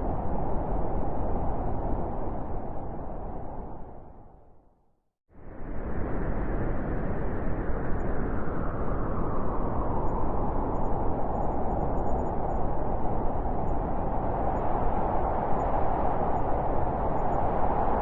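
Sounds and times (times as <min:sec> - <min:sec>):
howling wind: 0:00.0 - 0:18.0.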